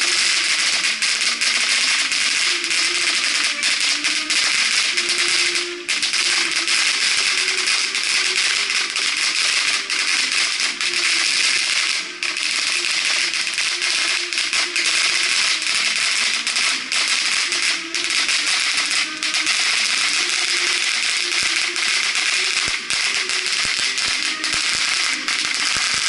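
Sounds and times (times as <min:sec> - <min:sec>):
background music: 0:00.0 - 0:26.0
fireworks hissing and crackling: 0:00.0 - 0:26.0.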